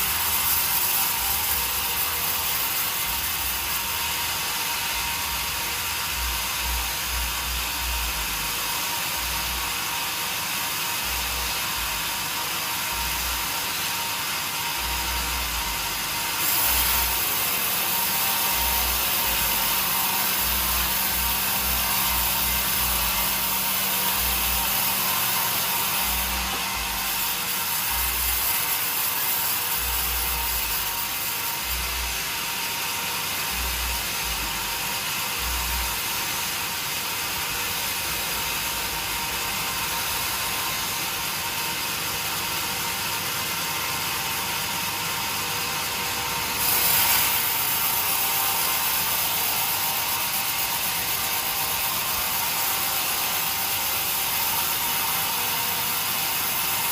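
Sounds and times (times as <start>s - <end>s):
sawmill saw cutting timber: 0.0s - 56.9s.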